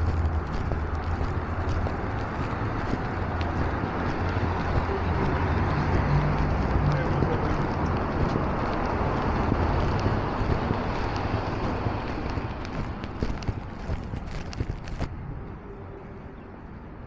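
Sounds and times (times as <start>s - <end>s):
footsteps on pavement: 0.0s - 17.0s
low traffic rumble: 0.0s - 17.0s.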